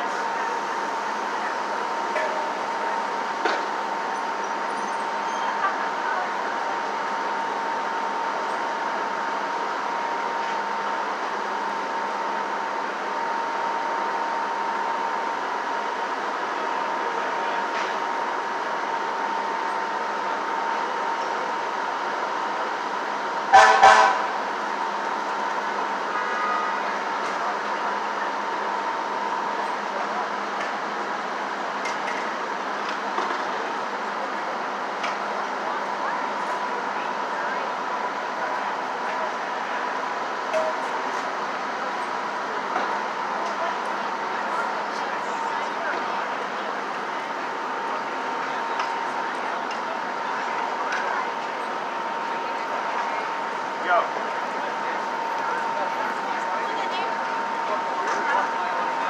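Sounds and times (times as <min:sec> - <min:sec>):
heavy vehicles running: 0:00.0 - 0:59.0.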